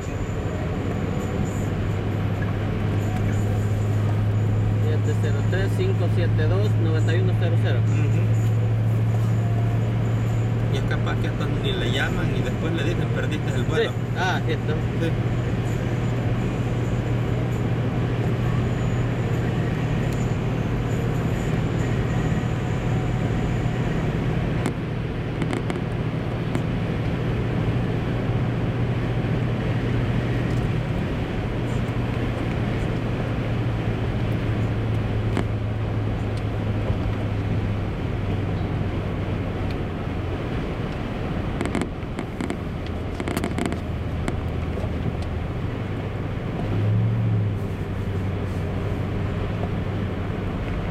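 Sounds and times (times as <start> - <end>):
car engine and road drone: 0.0 - 50.9.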